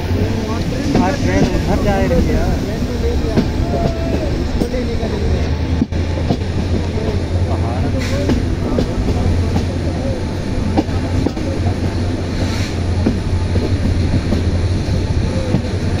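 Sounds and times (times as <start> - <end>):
moving train rumble: 0.0 - 16.0.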